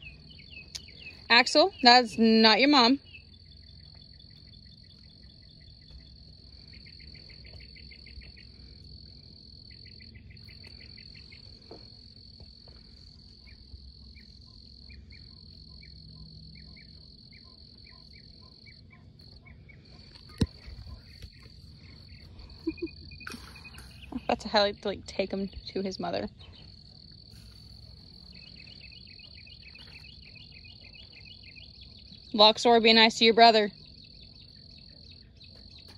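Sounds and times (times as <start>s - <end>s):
high-pitched insect trill: 0.0s - 35.9s
rapid pulsed insect chirping: 0.0s - 35.9s.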